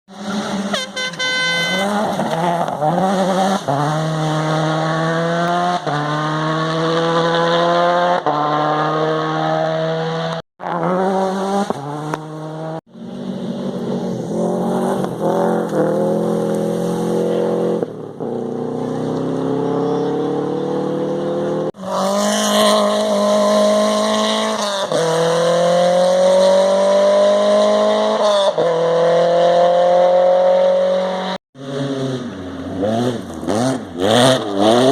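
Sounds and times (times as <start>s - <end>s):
rally car engines accelerating: 1.7s - 34.9s.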